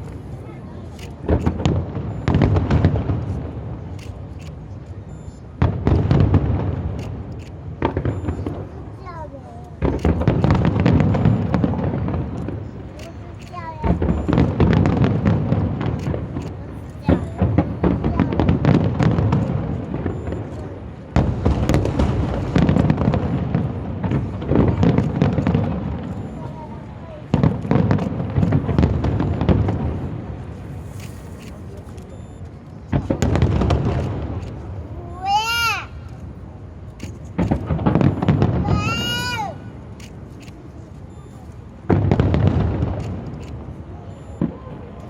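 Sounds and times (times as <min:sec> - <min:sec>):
faint firework crackles: 0:00.0 - 0:45.0.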